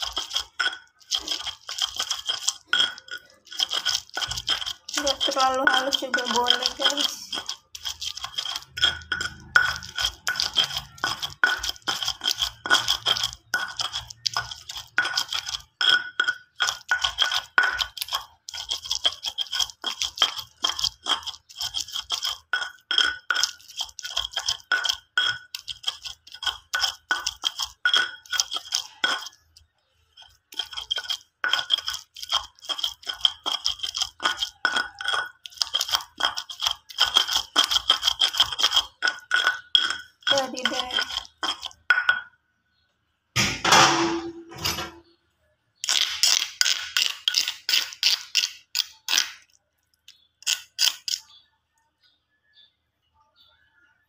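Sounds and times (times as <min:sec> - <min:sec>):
stone pestle grinding in mortar: 0:00.0 - 0:42.3, 0:45.8 - 0:51.5.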